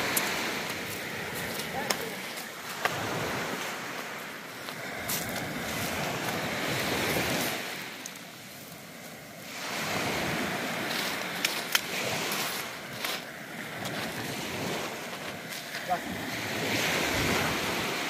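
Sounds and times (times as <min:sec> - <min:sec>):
sea waves washing onto beach: 0:00.0 - 0:18.0.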